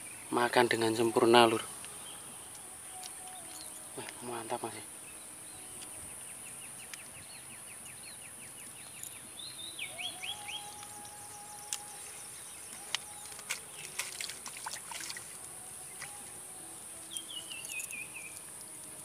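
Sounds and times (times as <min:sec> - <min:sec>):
birds calling: 0:00.0 - 0:19.0
faint steady hum: 0:00.0 - 0:19.0
high insect drone: 0:00.0 - 0:19.0.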